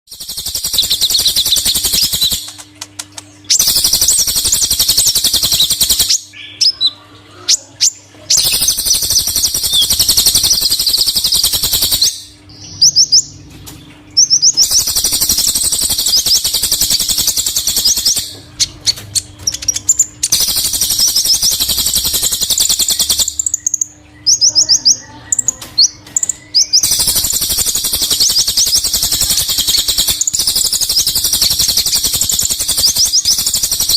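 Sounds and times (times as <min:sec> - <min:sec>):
sunbirds twittering: 0:00.1 - 0:33.9.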